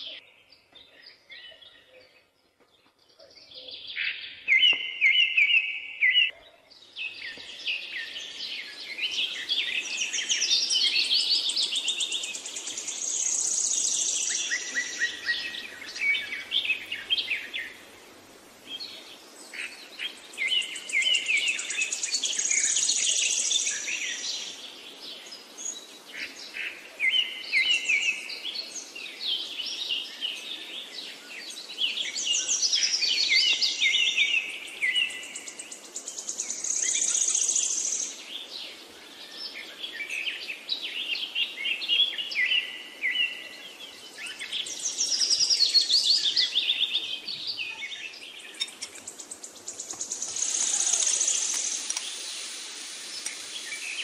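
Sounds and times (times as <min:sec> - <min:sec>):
birds chirping and singing: 0:00.0 - 0:18.0, 0:18.6 - 0:54.0.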